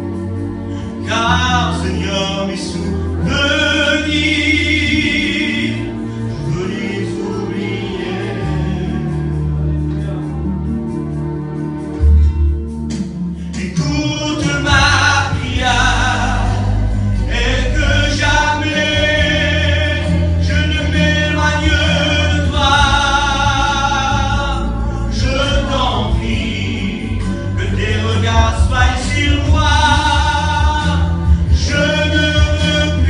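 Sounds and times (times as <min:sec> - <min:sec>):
steady bass accompaniment: 0:00.0 - 0:33.0
several voices singing worship song: 0:01.2 - 0:09.5, 0:14.4 - 0:33.0.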